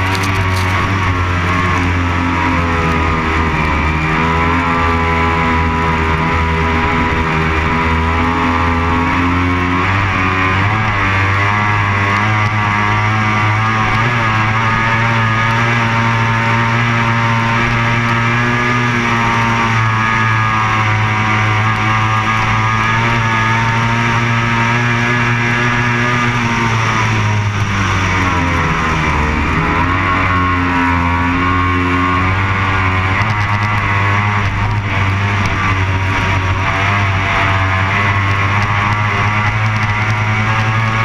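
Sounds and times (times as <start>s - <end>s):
powerboat engine running hard: 0.0s - 41.0s.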